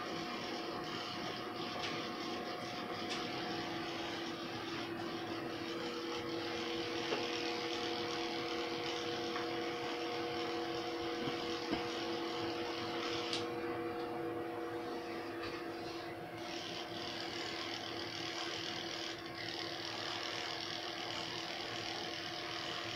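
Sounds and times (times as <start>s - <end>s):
electric hair clipper humming: 0.0s - 22.9s.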